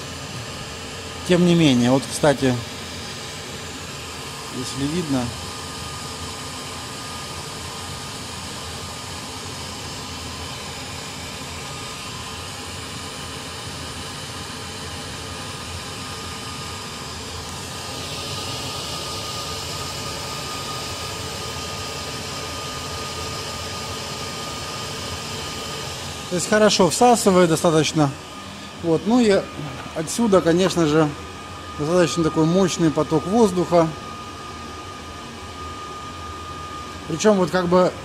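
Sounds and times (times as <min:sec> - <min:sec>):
blower fan rushing air: 0:00.0 - 0:38.0.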